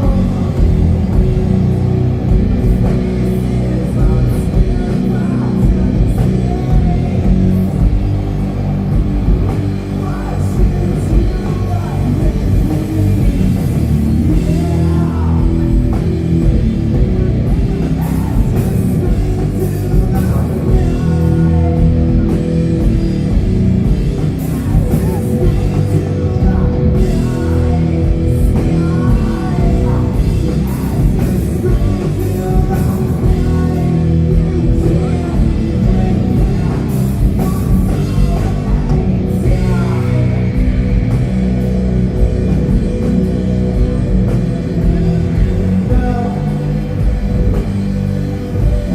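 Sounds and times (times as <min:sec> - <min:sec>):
bass guitar: 0:00.0 - 0:48.9
distorted electric guitars: 0:00.0 - 0:48.9
drum kit: 0:00.0 - 0:48.9
person singing: 0:00.0 - 0:48.9.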